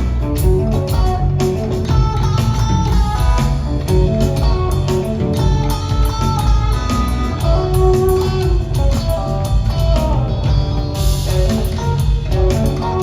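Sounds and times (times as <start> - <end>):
bass guitar: 0.0 - 13.0
drum kit: 0.0 - 13.0
electric guitar: 0.0 - 13.0.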